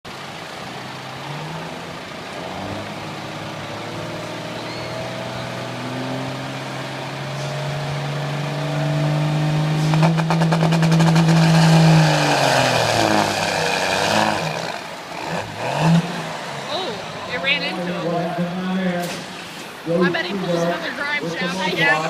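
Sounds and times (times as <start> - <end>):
truck engine under load: 0.0 - 22.0.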